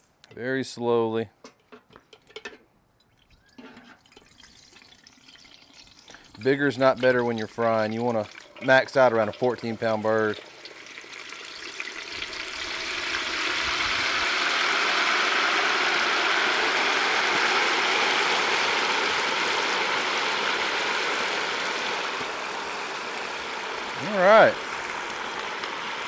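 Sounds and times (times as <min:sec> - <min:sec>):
frying oil sizzling and bubbling: 0:03.1 - 0:26.0.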